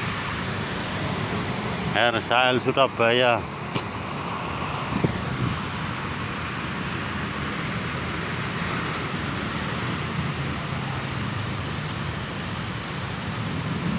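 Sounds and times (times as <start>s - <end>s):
engine rumble: 0.0s - 13.9s
tyre and road hiss: 0.0s - 13.9s.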